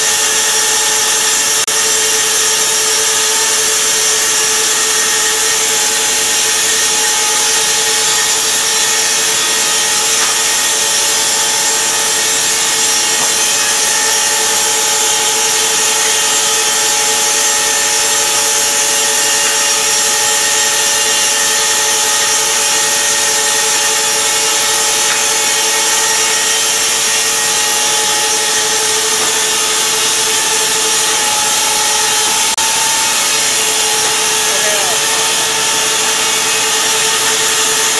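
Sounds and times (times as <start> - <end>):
saw blades cutting wood: 0.0 - 37.9.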